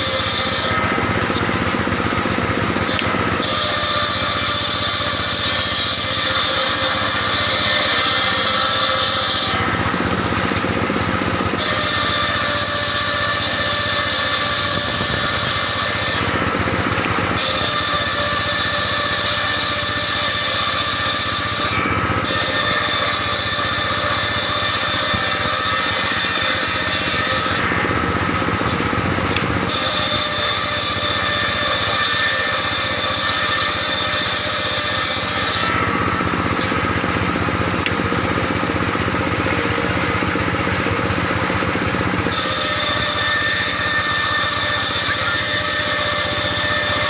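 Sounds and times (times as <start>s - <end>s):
circular saw cutting timber: 0.0s - 47.0s.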